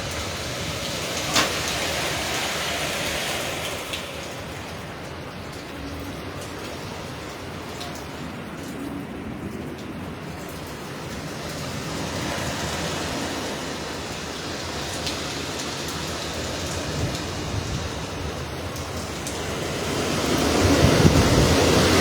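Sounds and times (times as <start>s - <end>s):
wind and driving rain: 0.0s - 22.0s.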